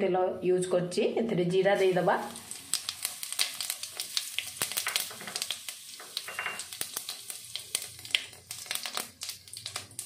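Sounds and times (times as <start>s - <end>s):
seeds crackling in hot oil: 1.5s - 10.0s.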